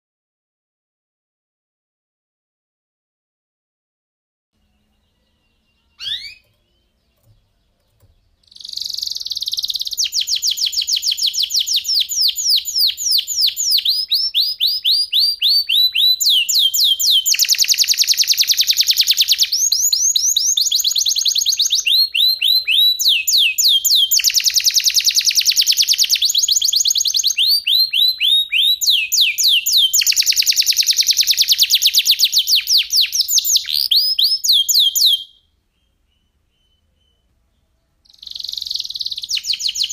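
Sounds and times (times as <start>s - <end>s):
canary singing: 4.6s - 39.9s.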